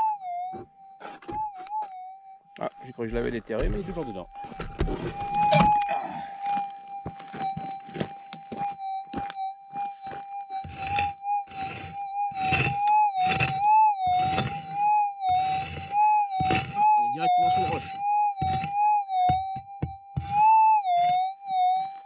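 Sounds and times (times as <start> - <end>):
metal detector humming: 0.0 - 22.0.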